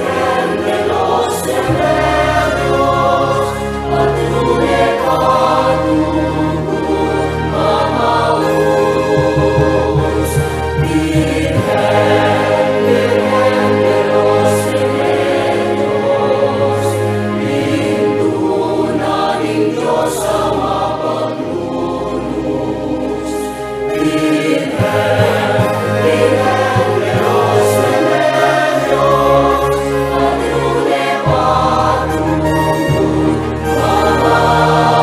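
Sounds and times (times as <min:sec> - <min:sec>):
choir singing sustained chords: 0:00.0 - 0:35.0
instrumental accompaniment: 0:00.0 - 0:35.0.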